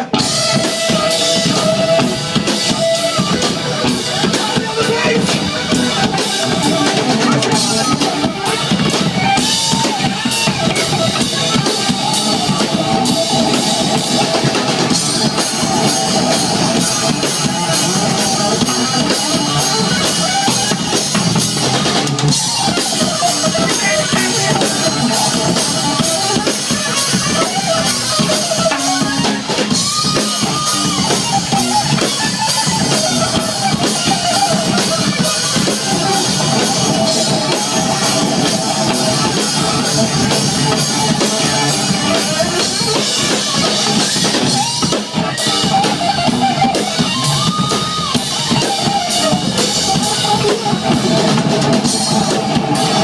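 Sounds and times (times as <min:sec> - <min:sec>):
bass guitar: 0:00.0 - 0:53.0
drum kit beat: 0:00.0 - 0:53.0
electric guitar: 0:00.0 - 0:53.0.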